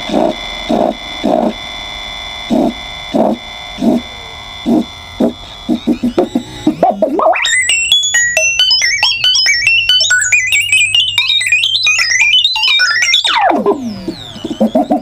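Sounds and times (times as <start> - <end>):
electronic toy melody: 2.5 - 15.0.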